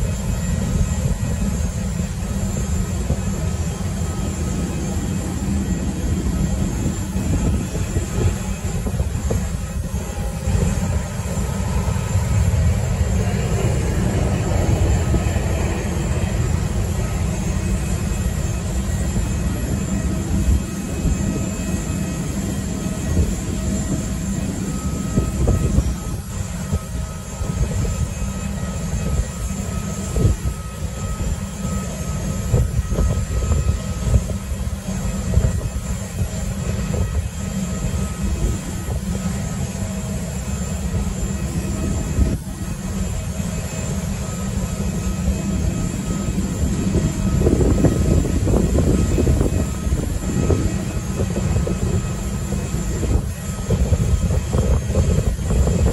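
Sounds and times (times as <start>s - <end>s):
jet aircraft rumble: 0.0s - 55.9s.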